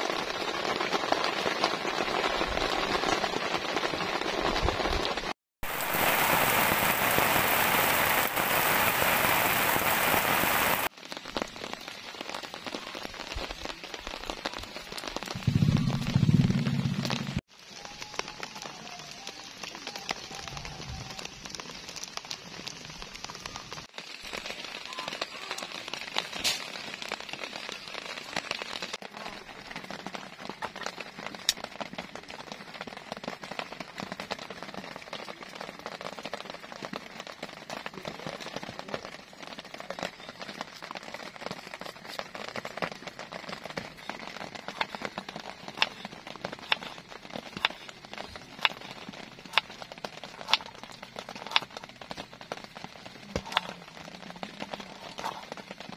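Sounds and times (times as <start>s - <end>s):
raindrop hits: 0.0s - 55.9s
steady rain: 0.0s - 55.9s.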